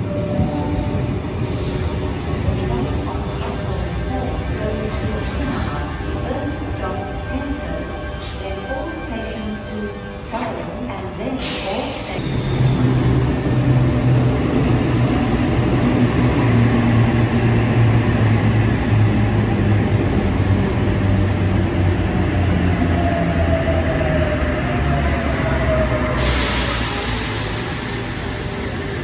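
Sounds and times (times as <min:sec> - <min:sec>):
electric train rumble and hum: 0:00.0 - 0:29.0.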